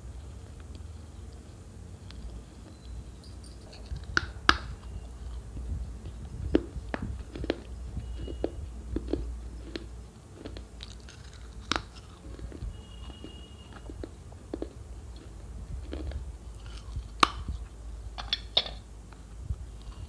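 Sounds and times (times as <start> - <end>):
chewing flatbread mouth clicks: 3.7 - 20.0.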